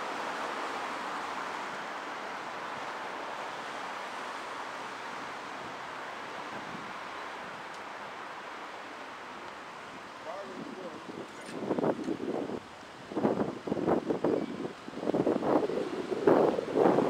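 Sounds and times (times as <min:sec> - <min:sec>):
city street noise: 0:00.0 - 0:17.0.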